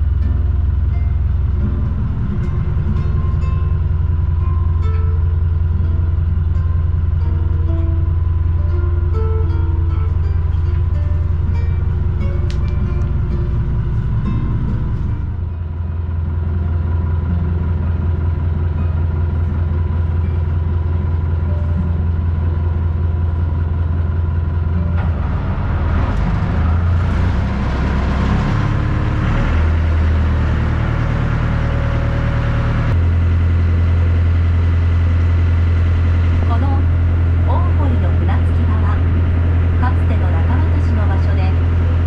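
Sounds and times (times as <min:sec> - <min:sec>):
boat engine droning: 0:00.0 - 0:42.0.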